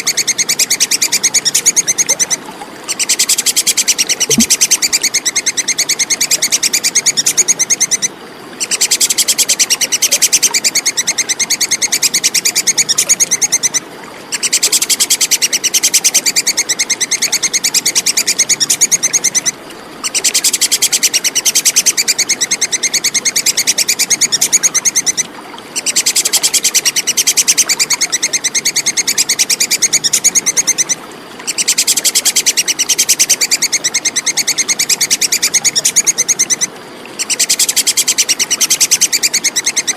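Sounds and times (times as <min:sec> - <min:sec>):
squirrel chattering call: 0:00.0 - 0:25.2, 0:25.8 - 0:39.9.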